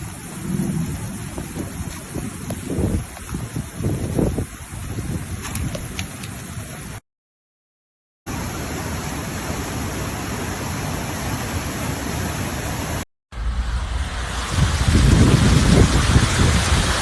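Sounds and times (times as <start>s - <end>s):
rushing water: 0.0s - 7.0s, 8.3s - 17.0s.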